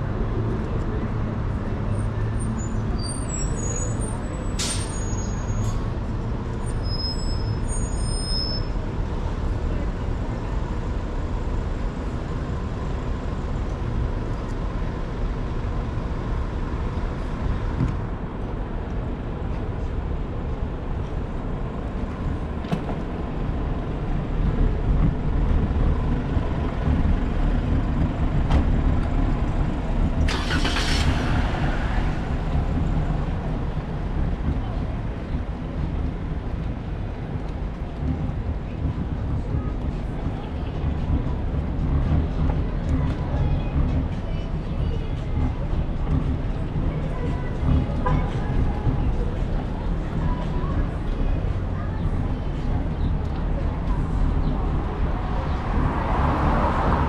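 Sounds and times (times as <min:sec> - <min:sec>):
passing cars rumble: 0:00.0 - 0:57.0.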